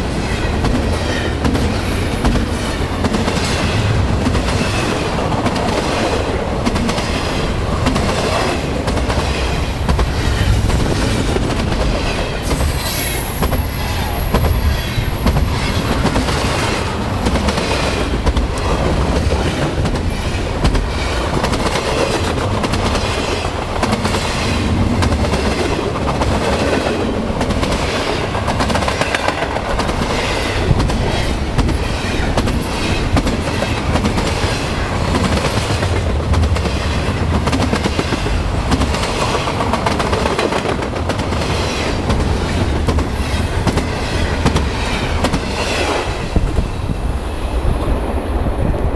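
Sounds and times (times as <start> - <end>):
train wheels clacking over rail joints: 0.1 - 46.7.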